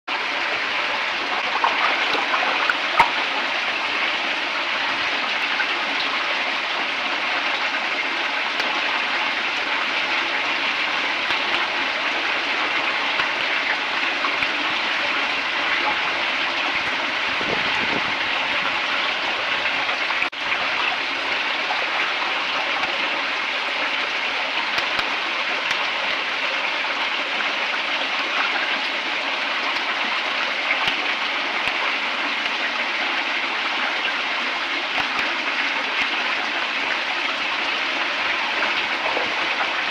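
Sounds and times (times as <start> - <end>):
water rushing through pipe: 0.1 - 39.9.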